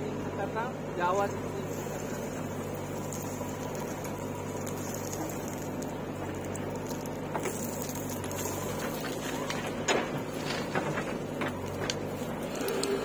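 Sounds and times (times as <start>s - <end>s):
diesel engine humming: 0.0s - 13.0s
earth and stones scraping: 1.9s - 13.0s.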